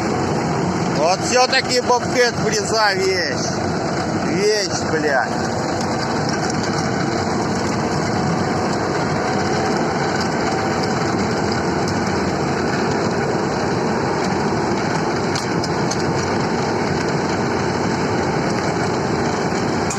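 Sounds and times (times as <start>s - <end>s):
diesel engine running under load: 0.0s - 19.9s.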